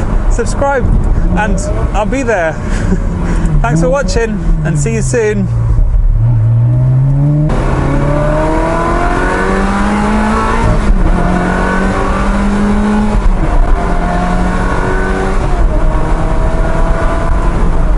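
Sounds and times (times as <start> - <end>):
sports car engine accelerating: 0.0 - 17.9.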